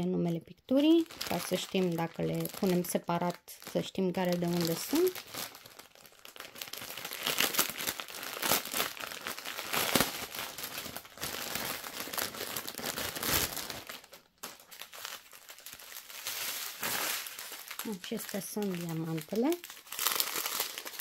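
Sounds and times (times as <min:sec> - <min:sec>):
plastic packaging crinkling: 0:00.7 - 0:21.0.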